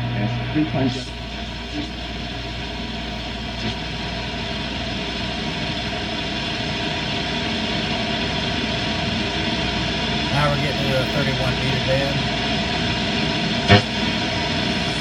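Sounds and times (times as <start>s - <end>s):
low hum: 0.0s - 15.0s
radio static hiss: 0.0s - 15.0s.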